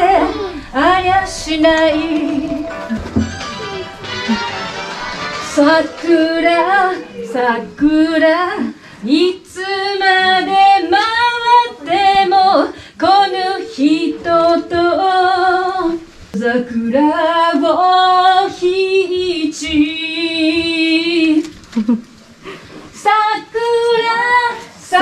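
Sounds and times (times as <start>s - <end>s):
woman singing with vibrato: 0.0s - 21.5s.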